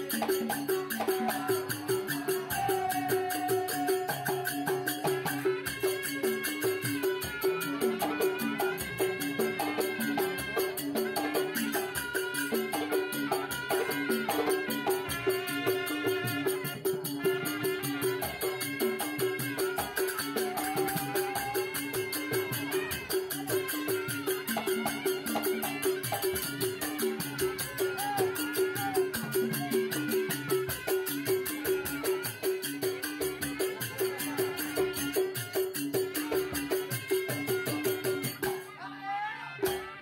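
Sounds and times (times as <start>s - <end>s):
fast percussion beat: 0.0s - 38.8s, 39.6s - 40.0s.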